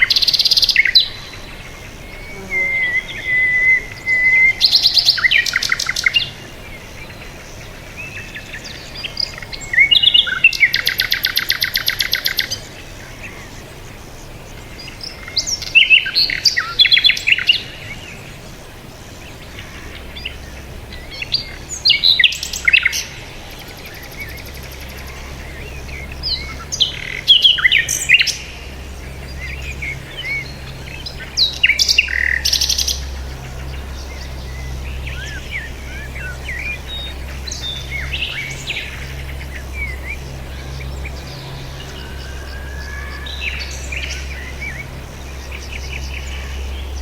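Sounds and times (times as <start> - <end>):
birds chirping: 0.0 - 47.0
steady low hum: 0.0 - 47.0.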